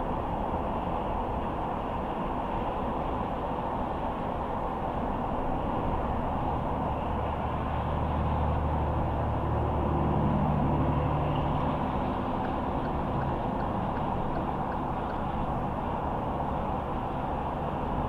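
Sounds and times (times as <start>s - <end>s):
low engine hum: 0.0s - 18.0s
tyre and road noise: 0.0s - 18.0s.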